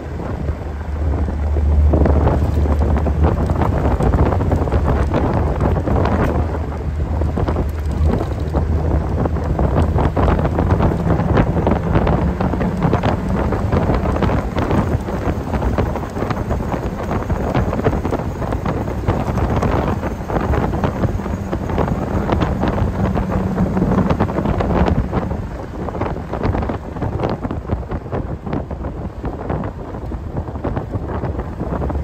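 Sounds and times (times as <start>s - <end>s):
car engine drone: 0.0s - 32.0s
wind buffeting microphone: 0.0s - 32.0s.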